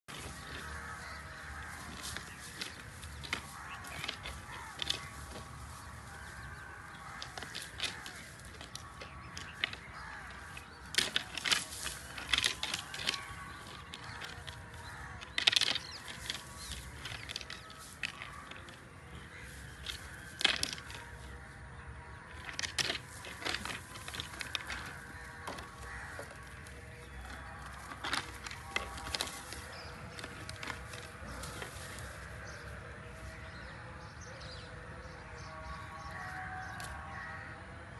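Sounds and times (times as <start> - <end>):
antlers clacking together: 0.1 - 21.5, 22.3 - 32.7.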